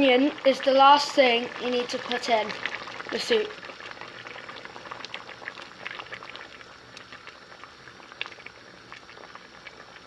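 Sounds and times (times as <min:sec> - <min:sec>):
soup simmering and bubbling: 0:00.0 - 0:10.0.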